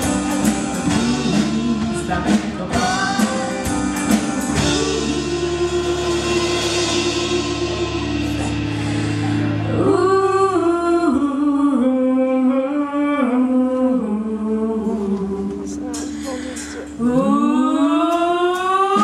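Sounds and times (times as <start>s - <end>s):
drums: 0.0s - 11.4s, 14.9s - 19.0s
bass guitar: 0.0s - 19.0s
woman singing: 0.0s - 19.0s.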